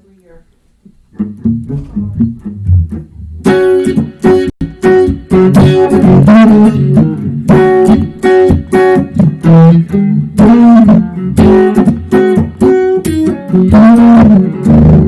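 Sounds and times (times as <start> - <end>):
electric guitar blues lick: 1.1 - 15.0.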